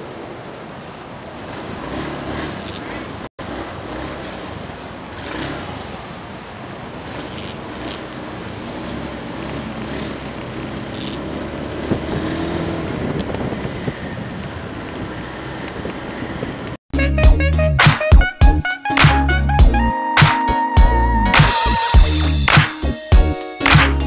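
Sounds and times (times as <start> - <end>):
street traffic noise: 0.0 - 20.4, 21.2 - 24.0.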